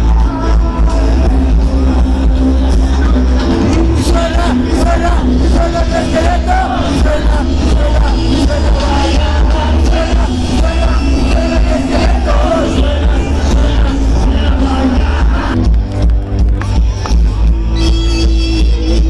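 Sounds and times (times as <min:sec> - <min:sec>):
person singing: 0:00.0 - 0:15.7
live rock band playing: 0:00.0 - 0:19.0.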